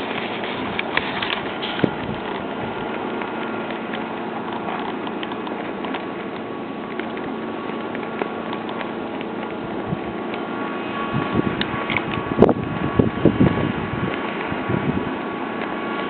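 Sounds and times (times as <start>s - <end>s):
steady machinery noise: 0.0s - 16.0s.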